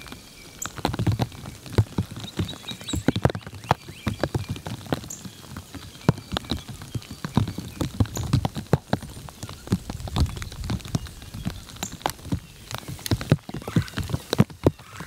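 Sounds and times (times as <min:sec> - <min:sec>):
precipitation pattering on hard surfaces: 0:00.0 - 0:15.0.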